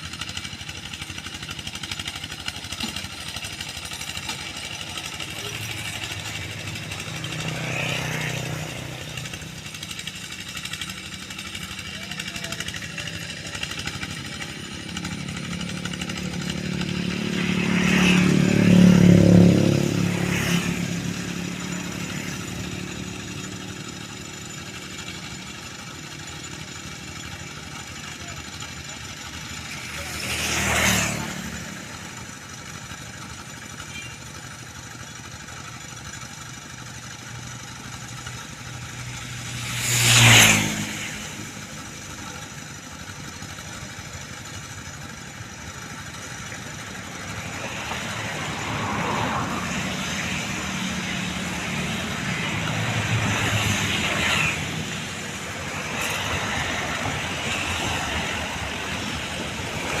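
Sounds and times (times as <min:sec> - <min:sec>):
engine revving: 0:00.0 - 0:25.8, 0:26.9 - 0:32.4, 0:38.2 - 0:44.6, 0:45.2 - 1:00.0
vehicle engines running: 0:00.0 - 1:00.0
vehicles passing by: 0:00.0 - 1:00.0.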